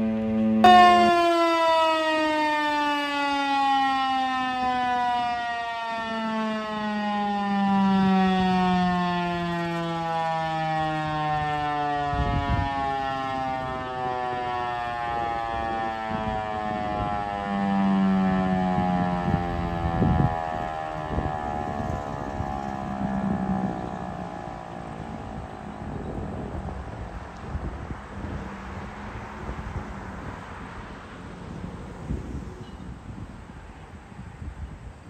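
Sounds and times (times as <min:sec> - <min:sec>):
warning siren winding down: 0:00.0 - 0:32.4.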